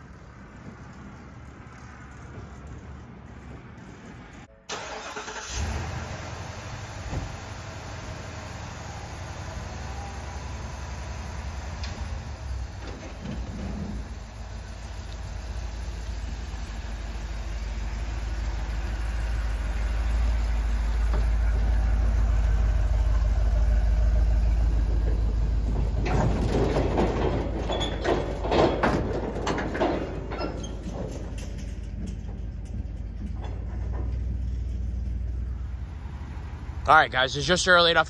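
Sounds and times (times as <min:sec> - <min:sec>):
trailer clanking over gravel: 0:00.0 - 0:38.0
truck engine rumbling: 0:00.0 - 0:38.0.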